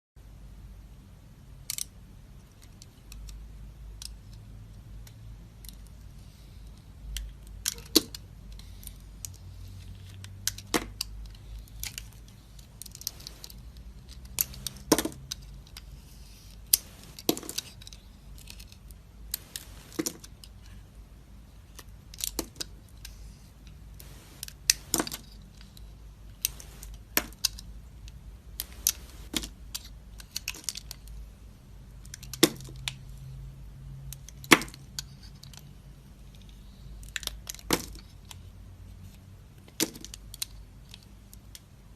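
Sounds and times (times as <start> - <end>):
faint low hum: 0.2 - 37.5.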